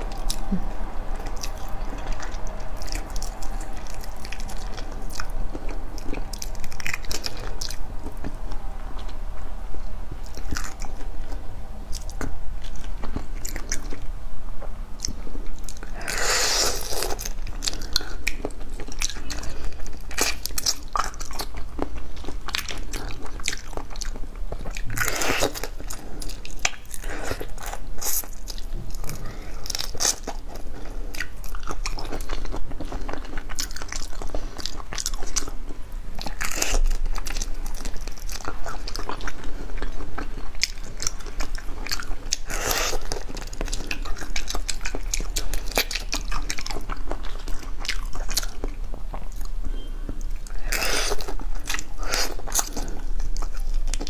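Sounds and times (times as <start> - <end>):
chewing: 0.0 - 54.0.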